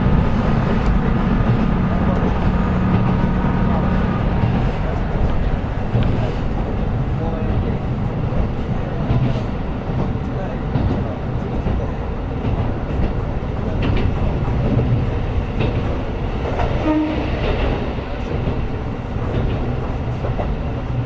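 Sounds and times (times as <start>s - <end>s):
train engine and wheels drone: 0.0s - 21.0s.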